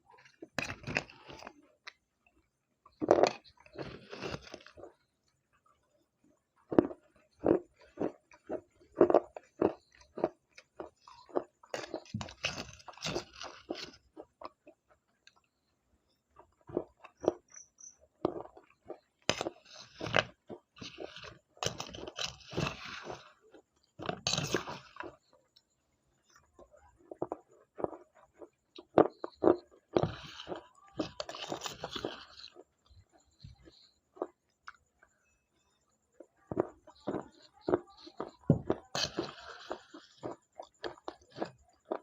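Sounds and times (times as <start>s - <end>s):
crunchy chewing: 0.0s - 42.0s.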